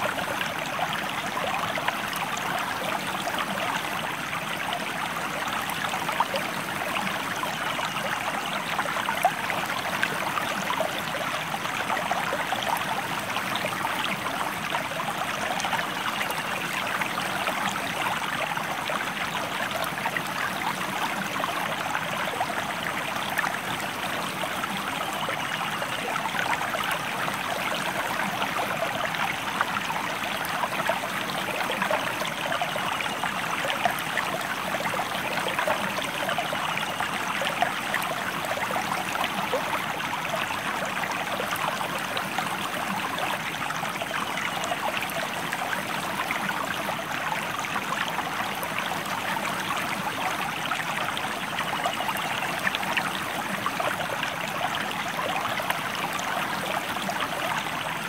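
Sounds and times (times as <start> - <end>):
stream water babbling: 0.0 - 58.0.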